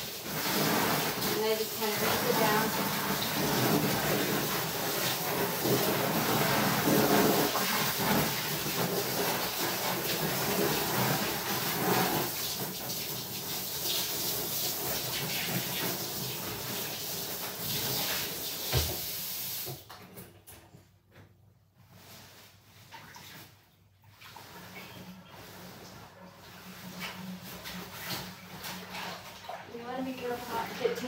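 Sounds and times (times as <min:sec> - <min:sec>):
shower water running onto fabric: 0:00.0 - 0:19.9, 0:24.1 - 0:31.0.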